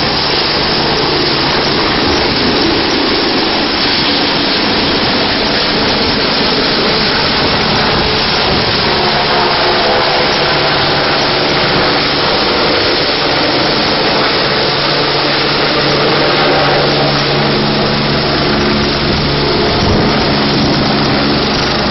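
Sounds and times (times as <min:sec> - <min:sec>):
helicopter turbine and rotor: 0:00.0 - 0:21.9.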